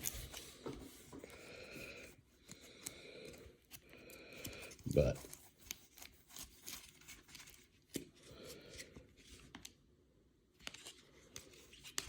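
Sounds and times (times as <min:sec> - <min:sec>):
cards being flipped through: 0:00.0 - 0:01.4, 0:02.4 - 0:09.8, 0:10.6 - 0:12.0.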